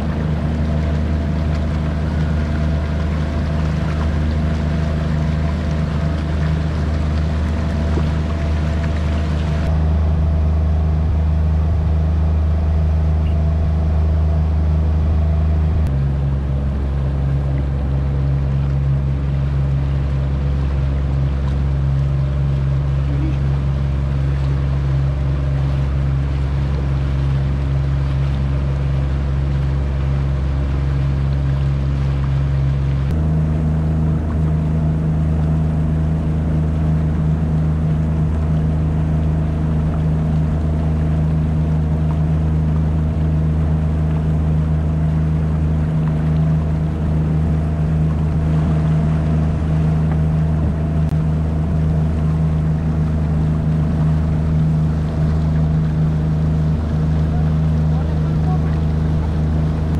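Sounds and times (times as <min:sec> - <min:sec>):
boat engine droning: 0:00.0 - 0:59.9
water rushing: 0:00.0 - 0:59.9.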